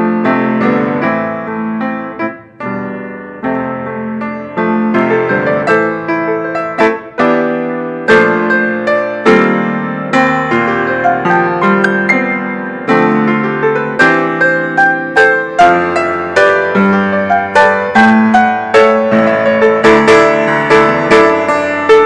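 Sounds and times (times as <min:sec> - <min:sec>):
solo piano playing chords: 0:00.0 - 0:22.0.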